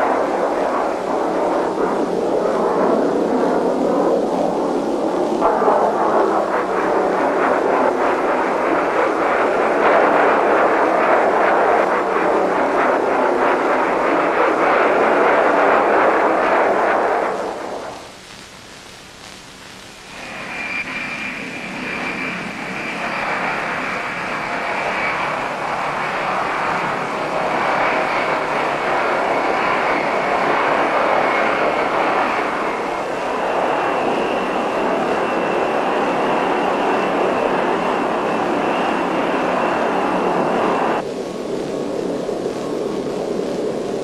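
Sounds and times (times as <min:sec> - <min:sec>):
high jet engine whine: 0:00.0 - 0:44.0
jet engine rush: 0:00.0 - 0:44.0.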